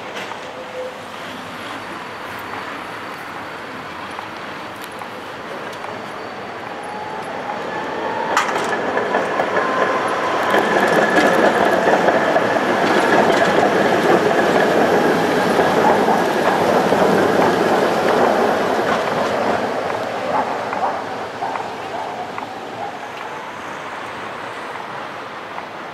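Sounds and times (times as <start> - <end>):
tram wheels clattering on rails: 0.0 - 25.9.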